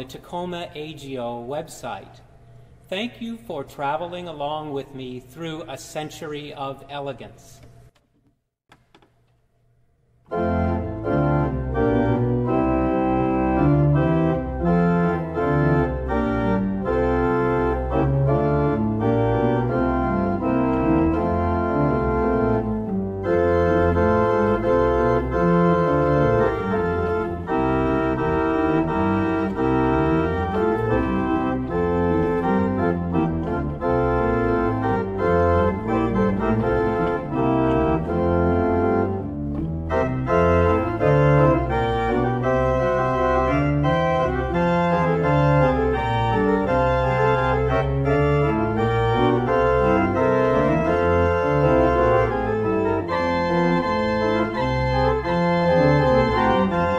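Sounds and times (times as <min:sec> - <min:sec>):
church organ playing: 0:10.2 - 0:56.9.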